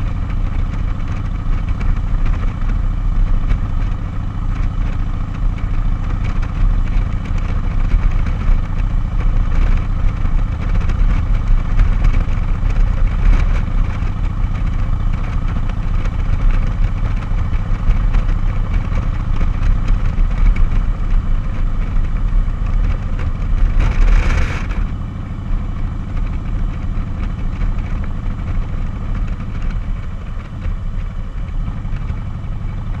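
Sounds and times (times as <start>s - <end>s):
motorcycle engine rumble: 0.0s - 33.0s.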